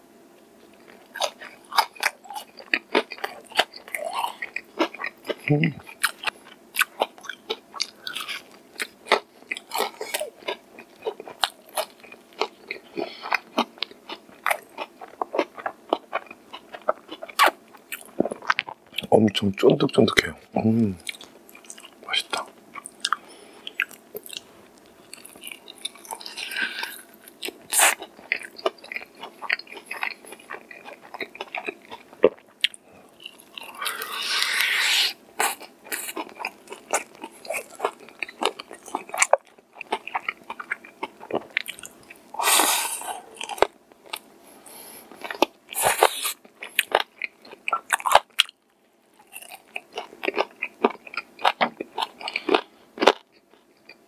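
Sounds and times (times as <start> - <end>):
crunching fried chicken: 0.7 - 19.3, 19.9 - 54.0.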